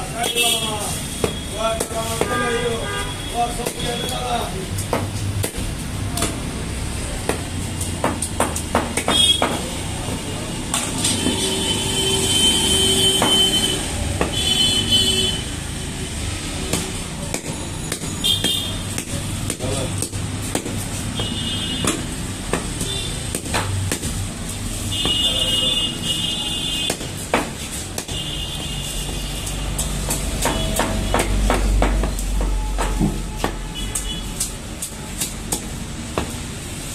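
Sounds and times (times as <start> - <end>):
busy market background noise: 0.0 - 36.9.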